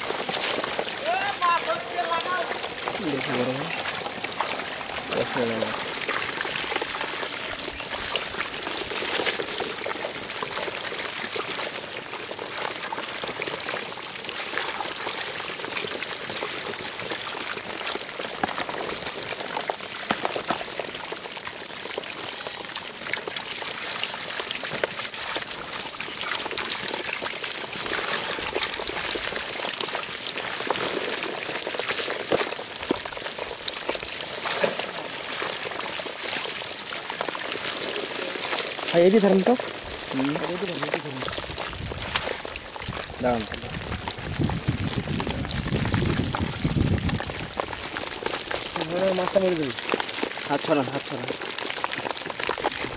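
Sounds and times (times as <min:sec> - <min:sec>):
water splashing and trickling: 0:00.0 - 0:52.9.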